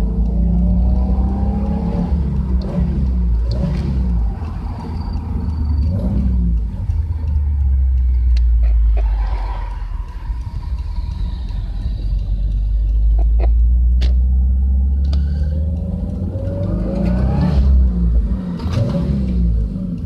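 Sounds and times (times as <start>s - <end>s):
car engine deep rumble: 0.0s - 20.0s
sharp clicks: 0.0s - 20.0s.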